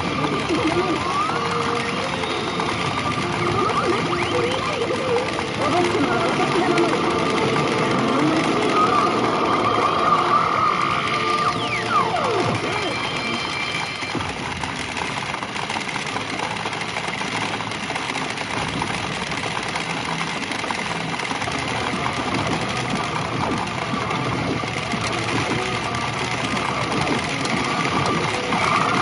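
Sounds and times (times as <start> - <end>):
pachinko balls clattering: 0.0 - 29.0.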